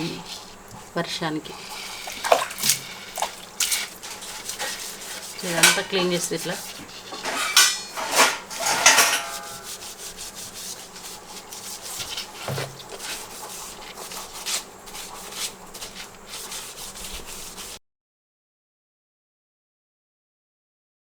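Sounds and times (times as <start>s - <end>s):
fridge parts being scrubbed: 0.0s - 17.8s.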